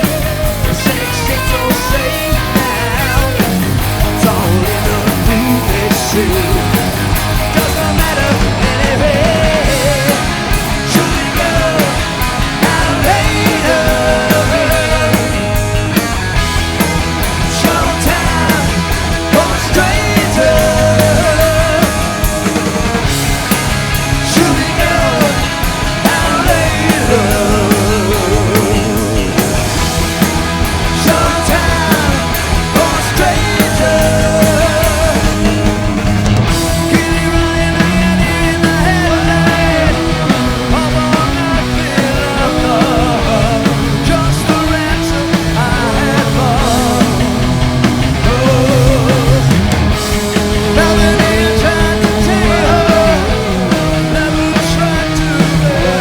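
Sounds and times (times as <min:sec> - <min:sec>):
distorted electric guitars: 0:00.0 - 0:56.0
live hard rock band: 0:00.0 - 0:56.0.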